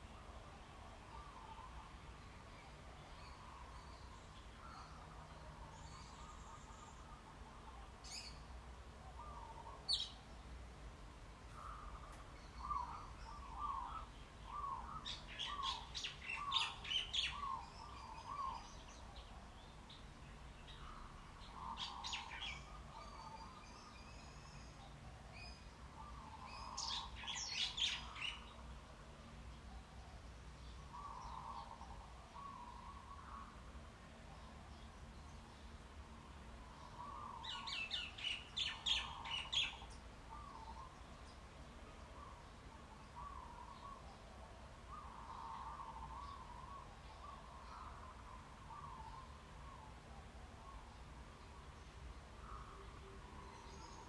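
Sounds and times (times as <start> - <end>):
faint low hum: 0.0 - 54.0
songbirds chirping: 0.0 - 54.0.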